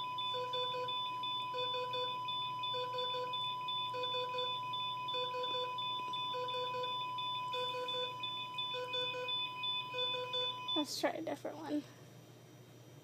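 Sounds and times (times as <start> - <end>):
quick monitor beeps: 0.0 - 10.9
steady high alarm tone: 0.0 - 10.9.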